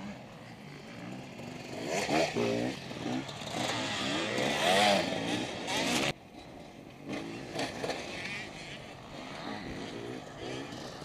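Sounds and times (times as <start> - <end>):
dirt bike engine revving: 0.0 - 6.2, 7.0 - 11.0.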